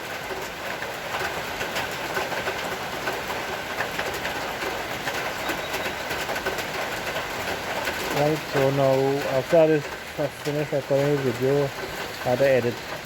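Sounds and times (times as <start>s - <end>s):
rain hiss: 0.0s - 13.0s
raindrops ticking on hard surfaces: 0.0s - 13.0s.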